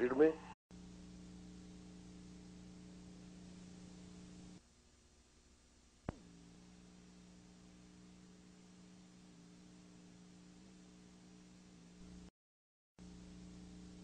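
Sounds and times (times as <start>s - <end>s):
faint low hum: 0.0s - 12.3s, 13.0s - 14.0s.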